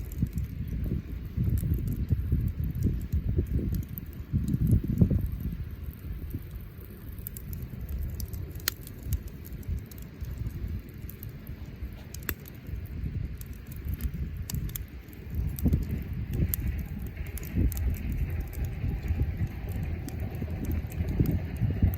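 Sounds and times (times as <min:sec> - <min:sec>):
low rumble: 0:00.0 - 0:21.9
wood bonfire crackling: 0:00.0 - 0:21.9.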